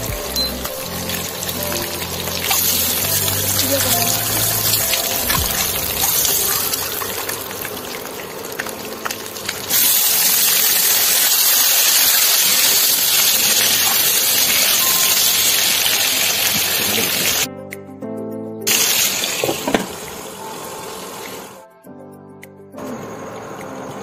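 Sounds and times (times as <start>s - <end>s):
hot oil sizzling: 0.0s - 17.5s, 18.7s - 21.6s.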